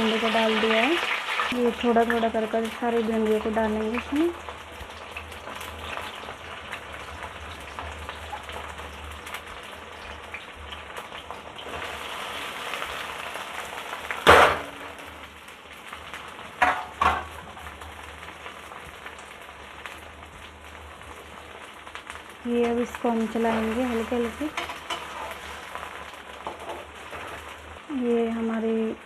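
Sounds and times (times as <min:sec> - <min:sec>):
okra sizzling in hot oil: 0:00.0 - 0:29.0.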